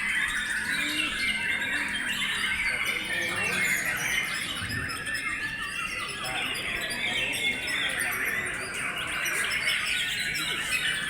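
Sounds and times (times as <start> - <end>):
many birds singing: 0.0 - 11.0.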